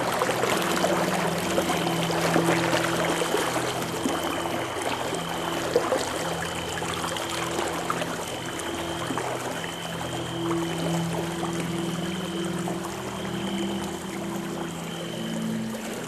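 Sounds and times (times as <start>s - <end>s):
ambient drone music: 0.0s - 16.0s.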